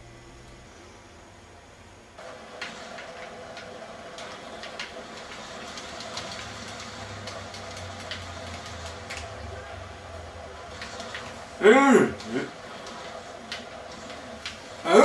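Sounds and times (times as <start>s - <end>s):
video game drone: 0.0s - 15.0s.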